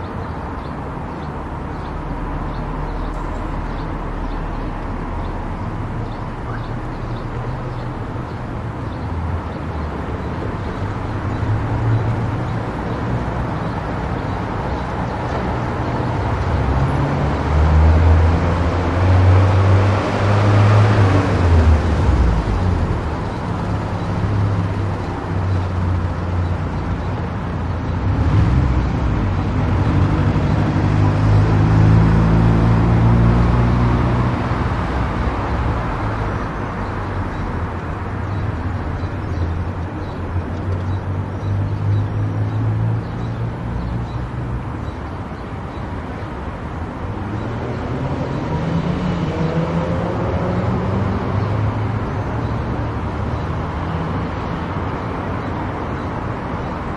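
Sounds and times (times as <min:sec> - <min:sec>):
tyre and road noise: 0:00.0 - 0:56.9.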